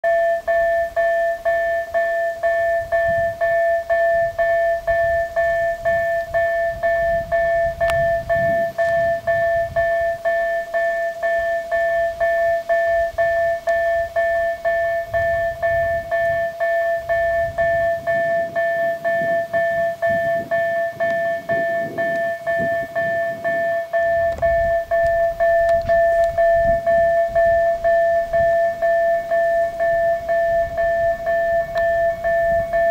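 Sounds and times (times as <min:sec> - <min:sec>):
level crossing bell ringing: 0:00.0 - 0:32.9.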